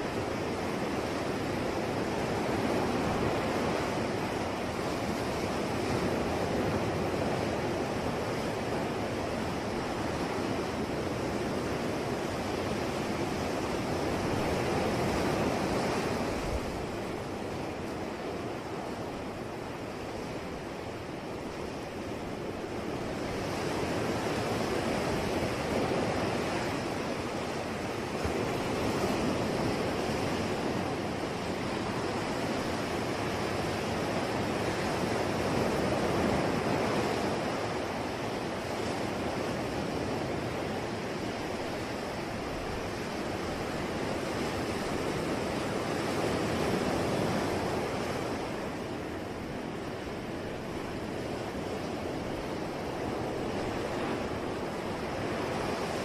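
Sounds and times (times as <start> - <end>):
ocean waves washing on shore: 0.0 - 56.0.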